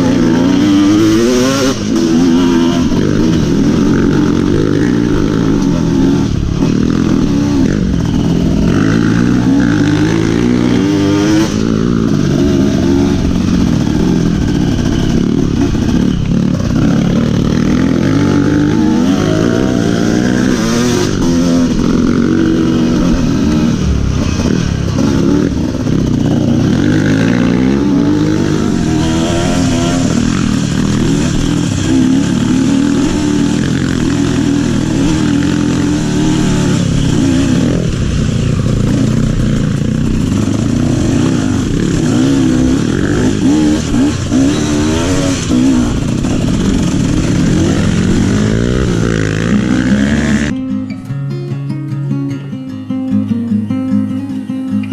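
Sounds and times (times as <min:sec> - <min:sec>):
motorcycle engine revving under load: 0:00.0 - 0:50.6.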